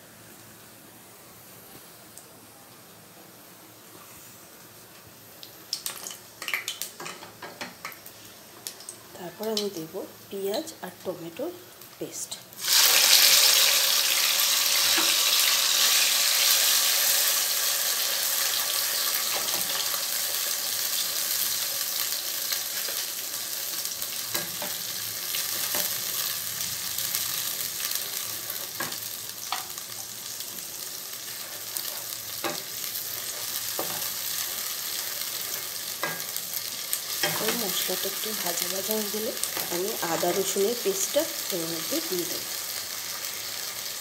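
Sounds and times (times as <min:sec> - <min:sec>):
onion and tomato sizzling in oil: 0:00.0 - 0:44.0.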